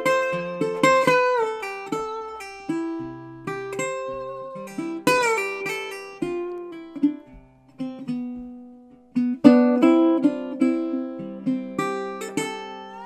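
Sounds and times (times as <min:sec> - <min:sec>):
acoustic guitar played slowly: 0:00.0 - 0:13.0
strummed guitar chord: 0:00.0 - 0:13.0.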